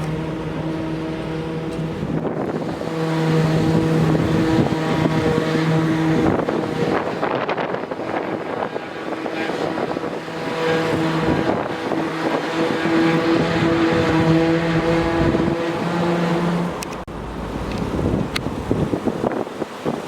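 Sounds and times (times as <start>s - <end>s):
engine droning hum: 0.0s - 19.3s.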